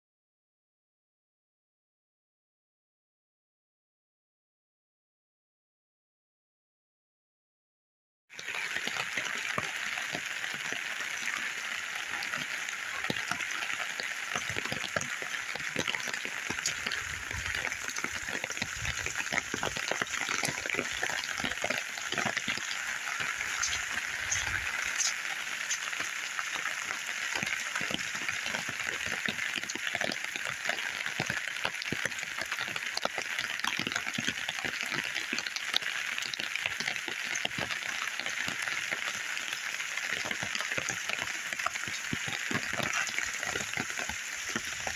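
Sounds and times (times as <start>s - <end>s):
rain patter: 8.3s - 44.9s.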